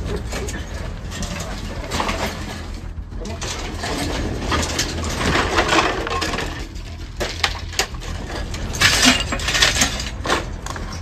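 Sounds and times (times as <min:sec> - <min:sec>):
rattling and scraping debris: 0:00.0 - 0:11.0
scrap and debris clattering: 0:00.0 - 0:11.0.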